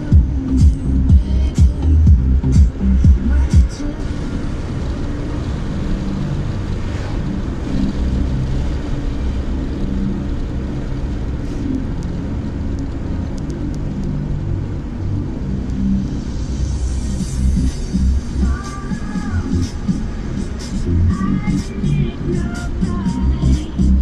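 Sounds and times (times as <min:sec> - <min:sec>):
car engine hum: 0:00.0 - 0:24.0
tyre and road rumble: 0:00.0 - 0:24.0.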